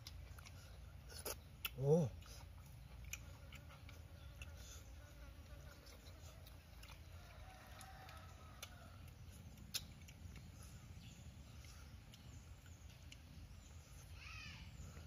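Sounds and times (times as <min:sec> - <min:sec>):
eating by hand: 0:00.0 - 0:15.0.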